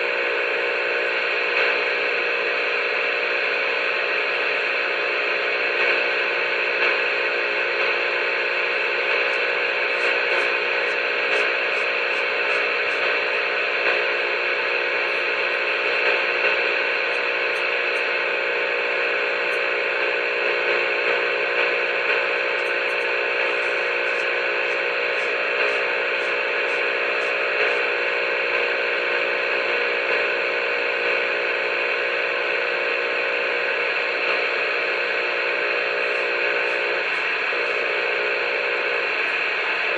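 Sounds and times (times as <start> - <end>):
faint hum: 0.0 - 39.9
radio static hiss: 0.0 - 39.9.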